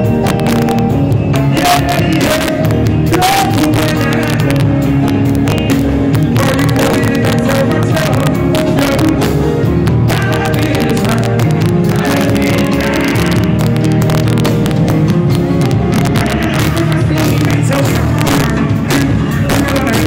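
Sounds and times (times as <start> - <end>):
live reggae music: 0.0 - 20.0.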